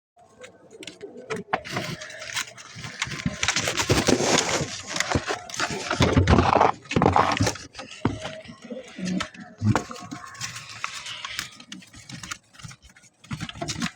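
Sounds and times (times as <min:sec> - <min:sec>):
pigeons rustling and scratching: 0:00.2 - 0:13.9.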